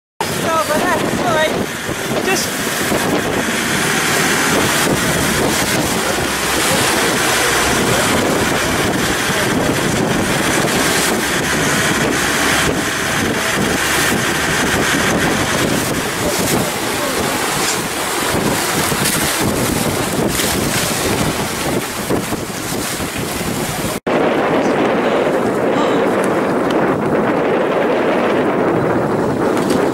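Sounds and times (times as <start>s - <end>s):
water rushing past boat: 0.2s - 29.9s
wind buffeting microphone: 0.2s - 29.9s.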